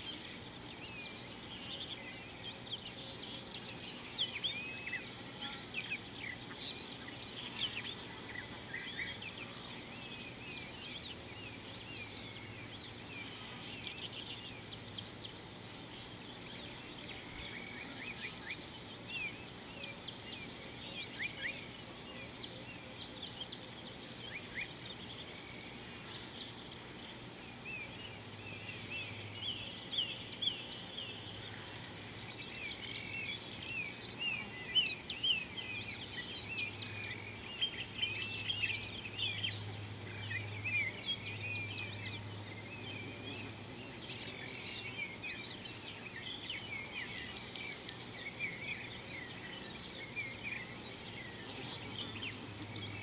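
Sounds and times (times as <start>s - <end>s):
faint low hum: 0.0s - 53.0s
small birds chirping: 0.0s - 53.0s.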